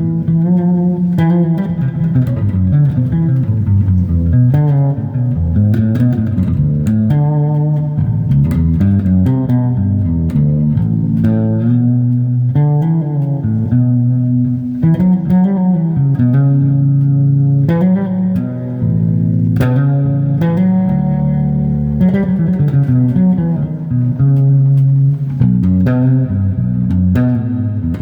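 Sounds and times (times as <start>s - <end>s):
fretless bass guitar plucked notes: 0.0s - 28.0s.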